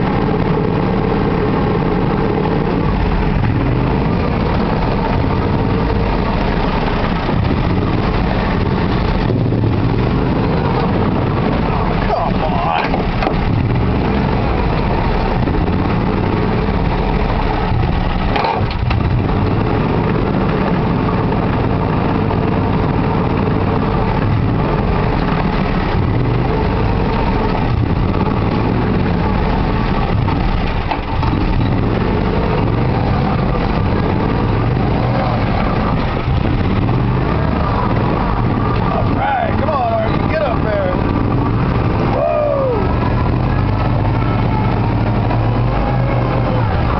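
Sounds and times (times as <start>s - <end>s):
vehicle engine running: 0.0s - 46.9s.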